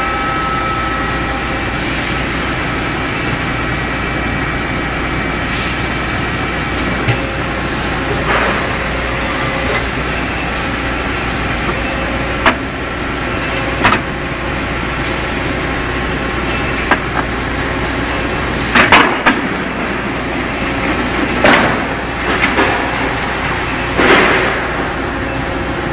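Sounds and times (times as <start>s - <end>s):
factory machinery hum: 0.0s - 25.9s.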